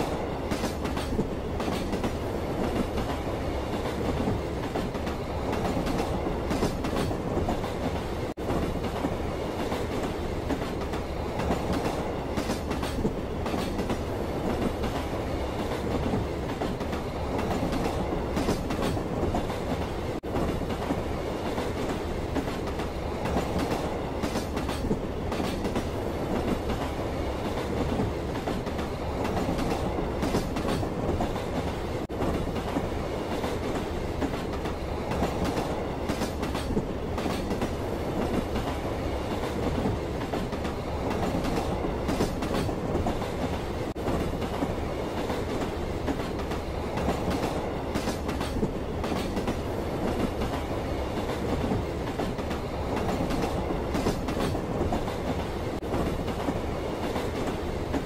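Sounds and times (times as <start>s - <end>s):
clickety-clack over rail joints: 0.0s - 58.0s
train wheels rumbling on rails: 0.0s - 58.0s.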